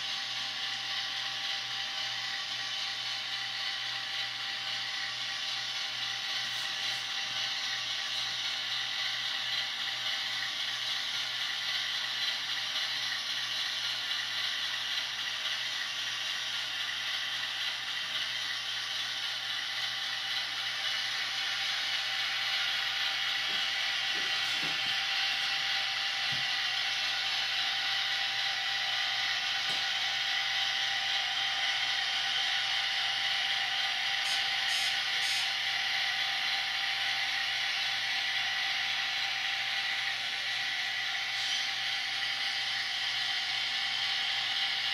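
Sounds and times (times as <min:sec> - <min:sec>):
model motor and wheels whirring: 0:00.0 - 0:44.9
diesel engine sound from speaker: 0:01.0 - 0:44.9.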